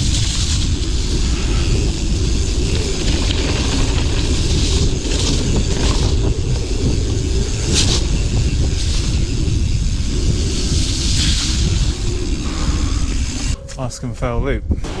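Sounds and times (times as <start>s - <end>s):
bike tyres rumbling on ground: 0.0s - 13.6s
wind on microphone: 0.0s - 15.0s.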